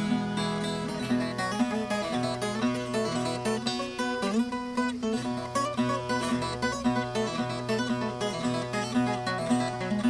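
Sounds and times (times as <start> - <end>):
plucked string notes: 0.0 - 10.0.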